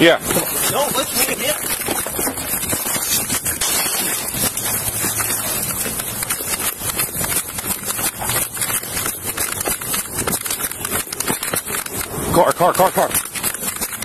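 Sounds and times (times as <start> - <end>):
body camera rubbing and jolting: 0.0 - 14.0
running footsteps on pavement: 0.0 - 14.0.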